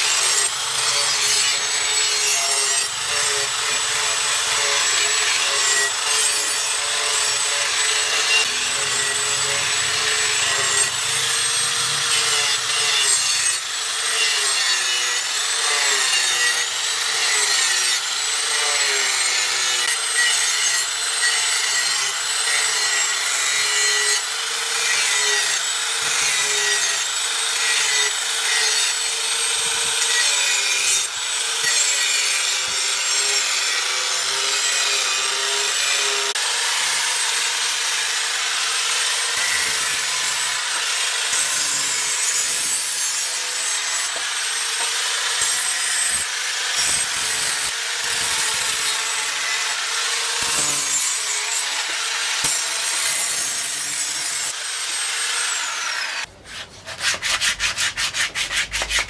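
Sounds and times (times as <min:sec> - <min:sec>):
angle grinder grinding steel: 0:00.0 - 0:59.0.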